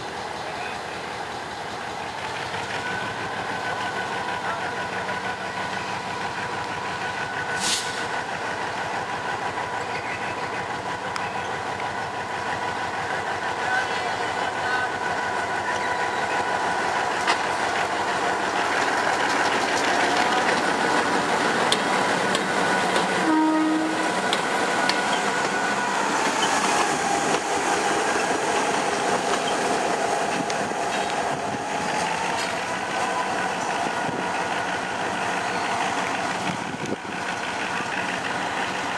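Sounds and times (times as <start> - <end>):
diesel locomotive engine: 0.0 - 38.9.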